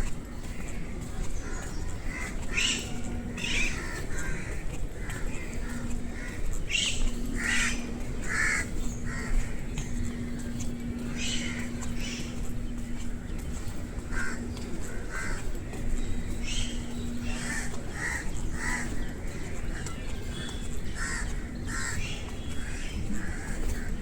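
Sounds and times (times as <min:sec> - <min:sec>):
crows cawing: 0:00.5 - 0:13.1, 0:13.9 - 0:24.0.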